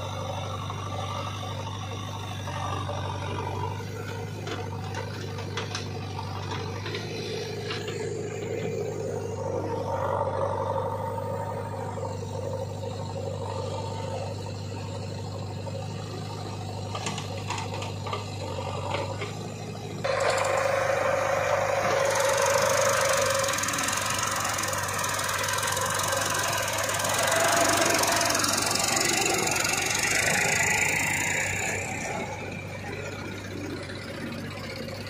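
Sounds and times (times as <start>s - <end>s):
diesel engines running: 0.0s - 35.0s.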